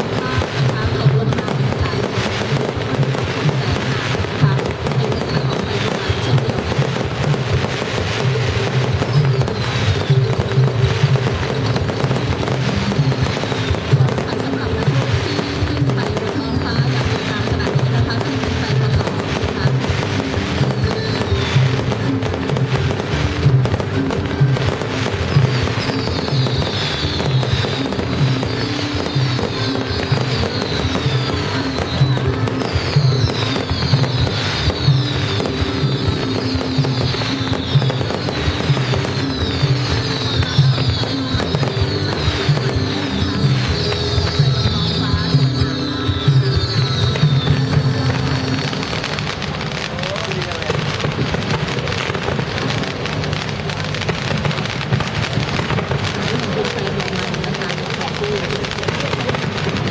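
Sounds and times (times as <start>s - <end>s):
fireworks popping and banging: 0.0s - 59.9s
fireworks whistling: 0.0s - 59.9s.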